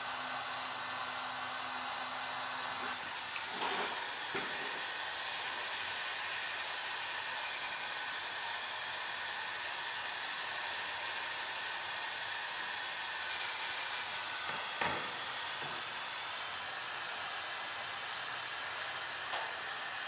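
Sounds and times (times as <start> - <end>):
heat gun blowing: 0.0 - 20.0.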